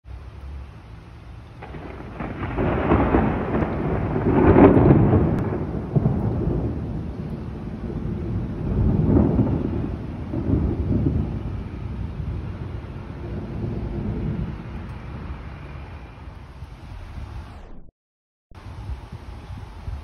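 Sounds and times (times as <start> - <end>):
thunder rumbling: 1.5 - 17.9.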